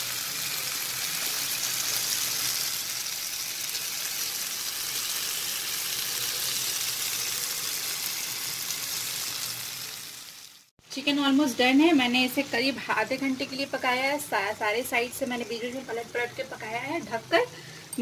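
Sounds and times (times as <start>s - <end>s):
chicken sizzling in a pan: 0.0s - 17.9s.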